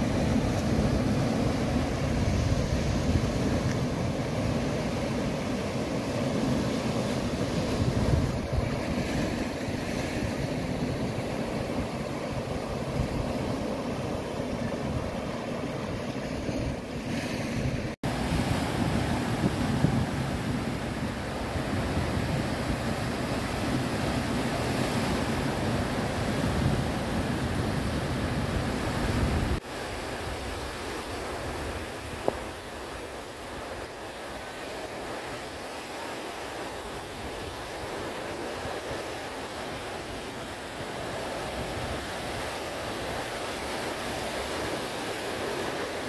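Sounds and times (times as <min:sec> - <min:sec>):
sea waves breaking over rocks: 0:00.0 - 0:46.0.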